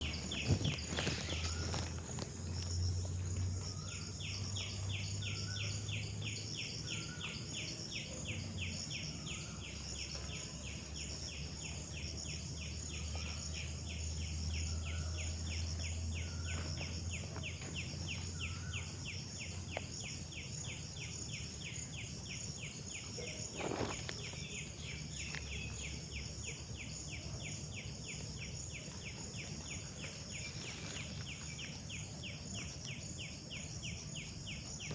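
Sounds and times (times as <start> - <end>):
high insect drone: 0.0 - 34.9.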